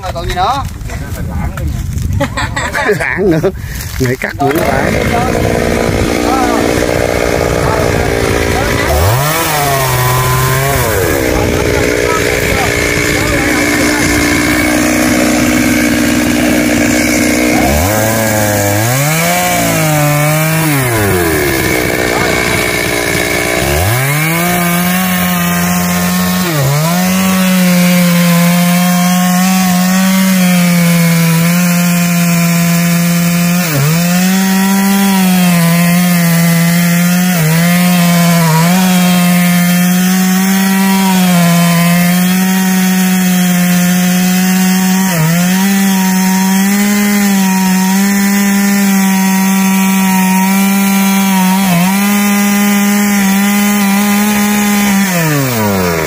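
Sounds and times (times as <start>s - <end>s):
chainsaw cutting wood: 3.7s - 56.0s.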